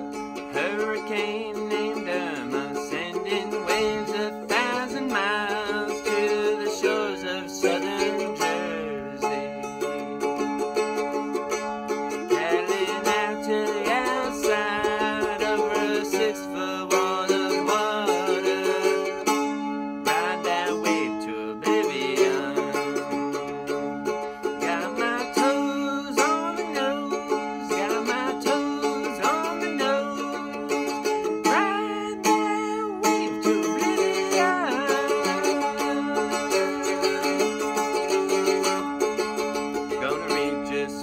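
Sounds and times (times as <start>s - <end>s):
mandolin strummed: 0.0s - 41.0s
man singing: 0.4s - 9.6s, 12.2s - 19.4s, 20.0s - 23.4s, 24.3s - 41.0s.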